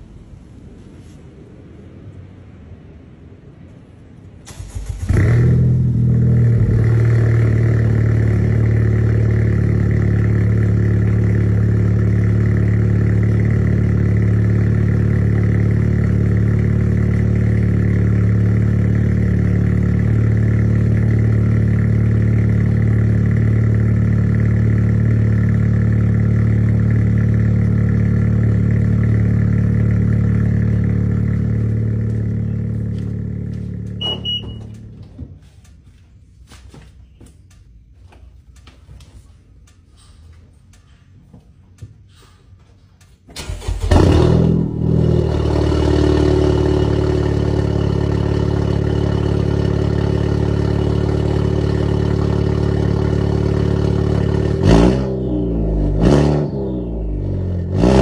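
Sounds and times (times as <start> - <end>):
car engine starting and idling: 4.3 - 36.0, 37.4 - 58.0.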